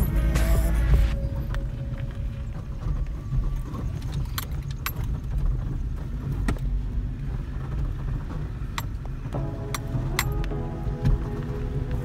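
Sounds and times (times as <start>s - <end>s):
car rumbling on dirt road: 0.0s - 12.0s
clicks and rattles in car: 1.2s - 12.0s.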